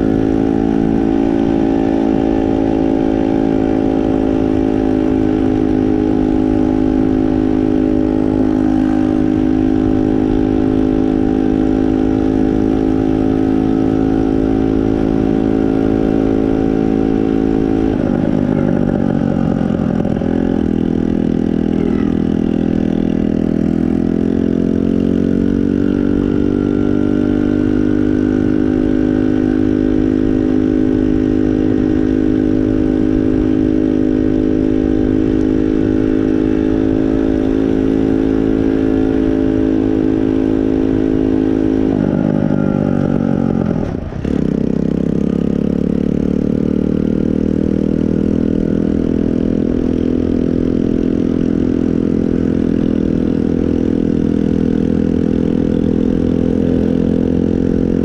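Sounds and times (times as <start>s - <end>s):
moped engine running: 0.0s - 58.0s.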